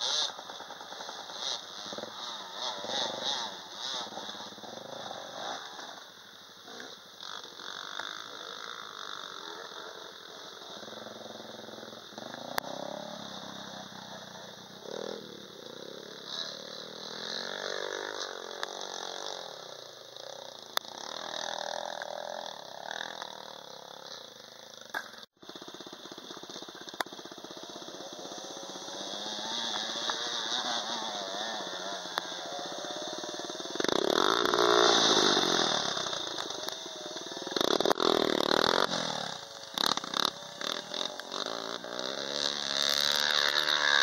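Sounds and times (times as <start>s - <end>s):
dirt bike engines revving: 0.0s - 44.0s.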